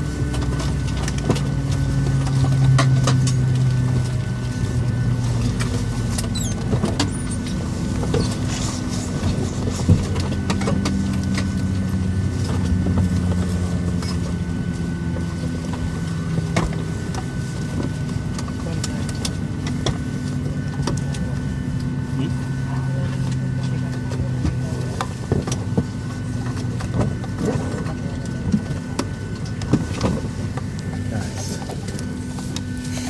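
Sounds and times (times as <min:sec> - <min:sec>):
aircraft cabin hum: 0:00.0 - 0:33.0.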